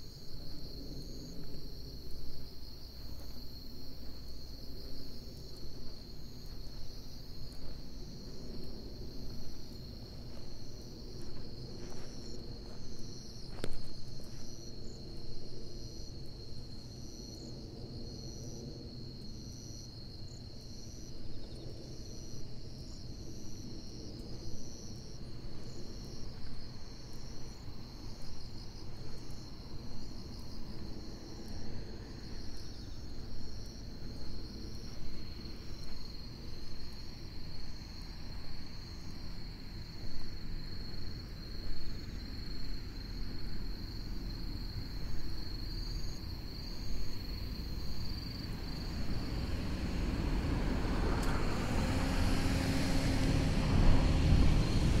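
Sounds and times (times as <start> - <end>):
insect chirping: 0.0 - 55.0.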